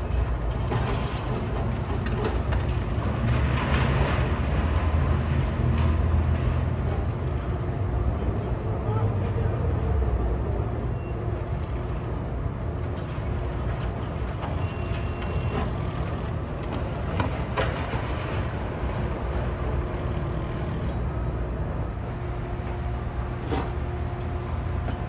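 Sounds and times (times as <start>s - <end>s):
low rumble of street traffic: 0.0s - 25.0s.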